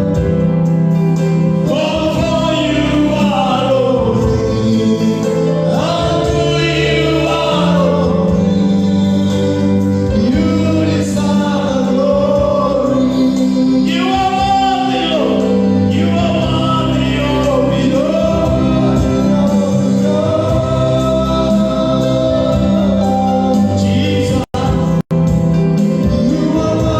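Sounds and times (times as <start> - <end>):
instrumental chords and bass: 0.0 - 26.9
group of voices singing: 1.6 - 25.1, 26.0 - 26.9.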